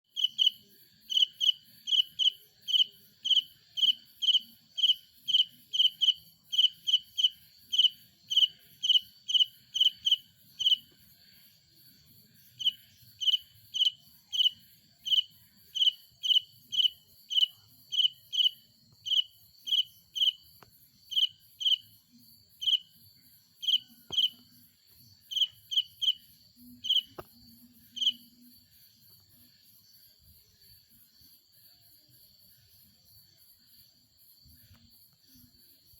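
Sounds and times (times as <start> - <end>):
cricket chirping: 0.0 - 35.9.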